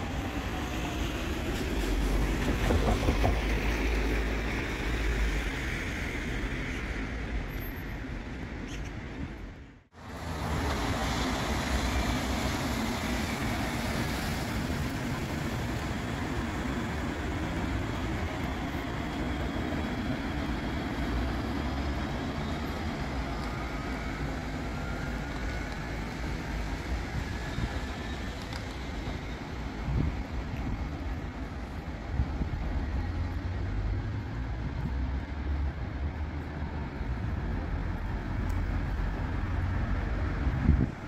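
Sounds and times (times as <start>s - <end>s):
light rail train rumbling: 0.0s - 41.0s.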